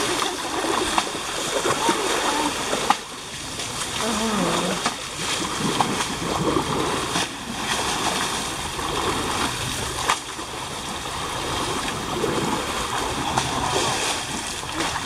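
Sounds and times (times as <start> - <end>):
water splashing in river: 0.0 - 15.0.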